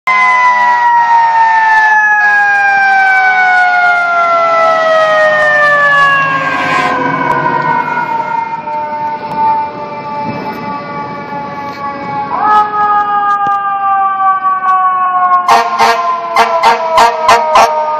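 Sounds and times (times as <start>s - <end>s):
siren winding down: 0.1s - 17.9s.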